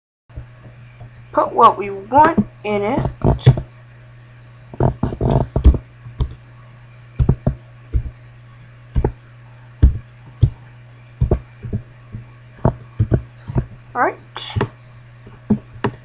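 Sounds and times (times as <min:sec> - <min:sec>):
low hum: 0:00.4 - 0:16.0.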